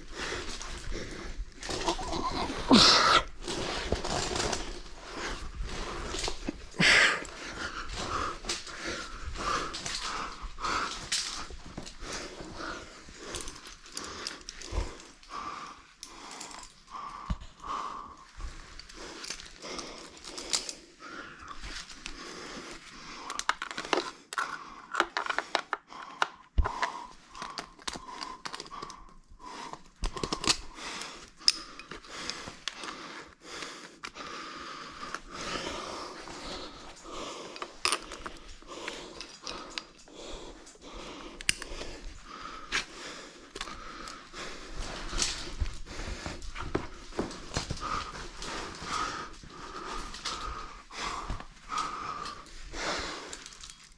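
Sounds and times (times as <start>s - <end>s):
person breathing: 0.0s - 53.9s.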